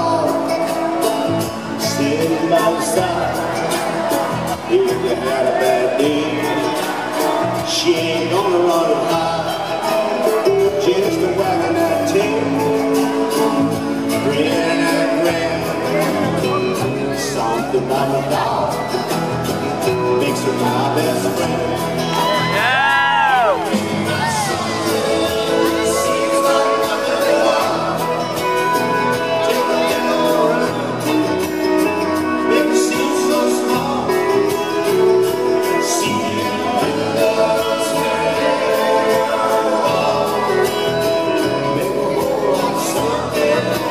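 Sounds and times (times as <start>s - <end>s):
live band playing: 0.0s - 43.9s.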